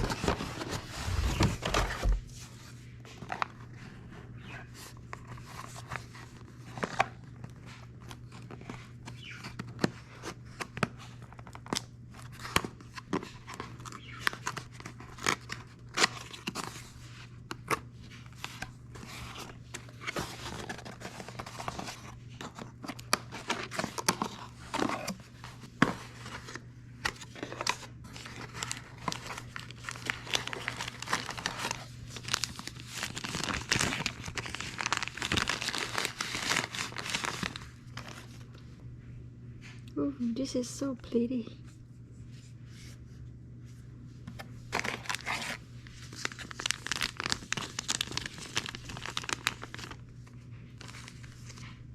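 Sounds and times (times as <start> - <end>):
wrapping tearing and crinkling: 0.0 - 2.4, 4.4 - 38.4, 44.7 - 51.8.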